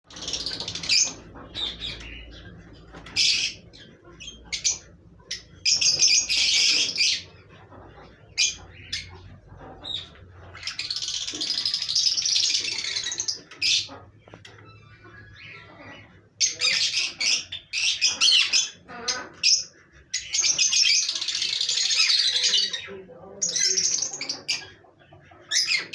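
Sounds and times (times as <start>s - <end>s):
birds chattering harshly: 0.0s - 25.9s
pet birds chirping and squawking: 0.0s - 25.9s.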